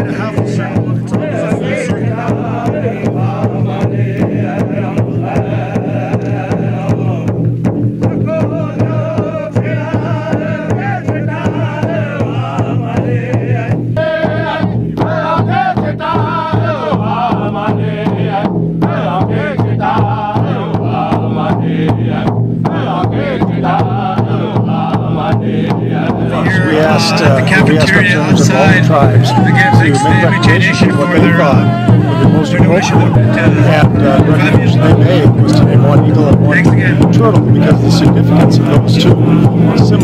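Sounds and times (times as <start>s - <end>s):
men chanting: 0.0s - 40.0s
steady drumbeat: 0.0s - 40.0s.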